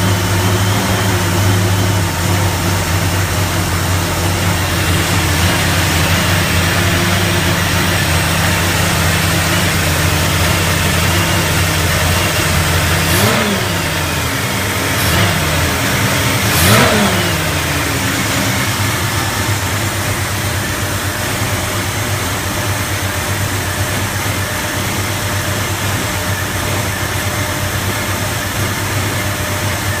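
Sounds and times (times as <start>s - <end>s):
engine idling roughly: 0.0s - 30.0s
engine revving: 0.0s - 30.0s.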